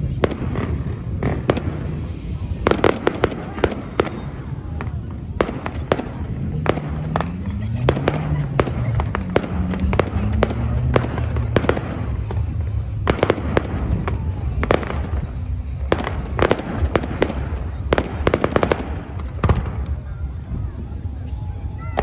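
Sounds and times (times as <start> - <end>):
fireworks bangs and crackling: 0.0 - 22.0
low continuous rumble: 0.0 - 22.0.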